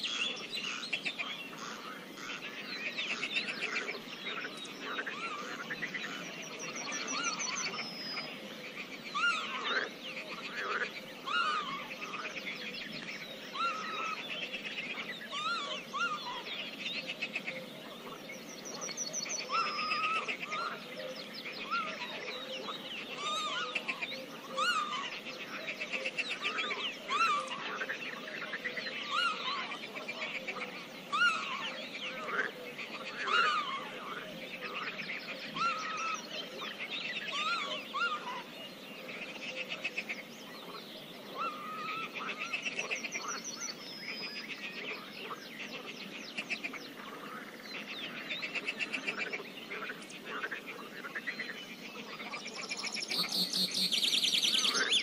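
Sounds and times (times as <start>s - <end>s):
birds singing: 0.0s - 55.0s
frogs calling: 0.0s - 55.0s.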